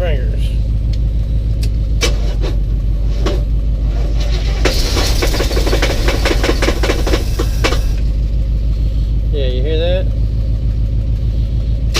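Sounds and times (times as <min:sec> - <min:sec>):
truck engine ticking and knocking: 0:00.0 - 0:11.9
truck idling hum: 0:00.0 - 0:11.9.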